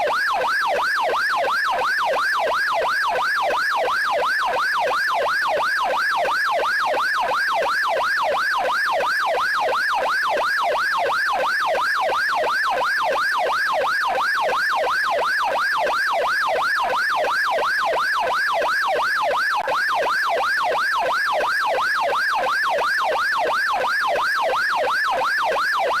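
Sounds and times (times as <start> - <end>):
police siren yelp: 0.0 - 26.0.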